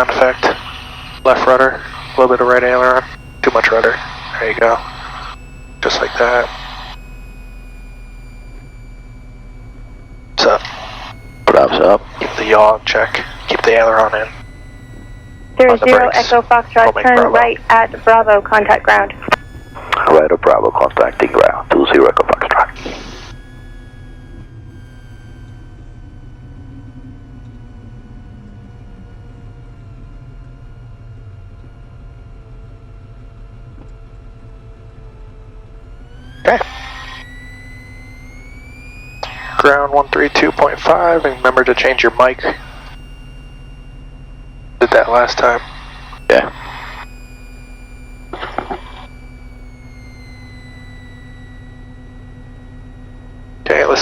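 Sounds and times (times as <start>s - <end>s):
propeller plane engine droning: 0.0s - 54.0s
thin high whine: 0.0s - 54.0s.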